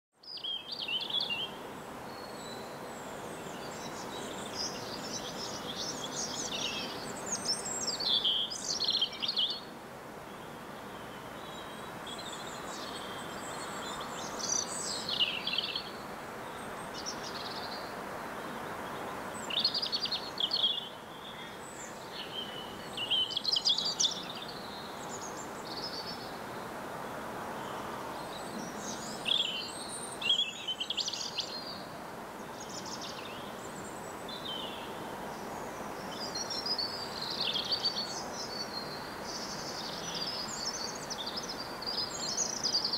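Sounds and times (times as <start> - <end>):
small birds chirping: 0.2 - 9.7, 10.3 - 26.8, 27.6 - 42.9
outdoor background hiss: 0.2 - 42.9.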